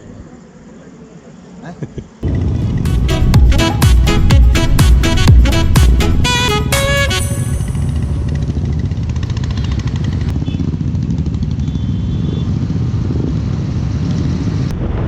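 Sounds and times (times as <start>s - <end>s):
motorcycle engine running: 2.2s - 14.6s.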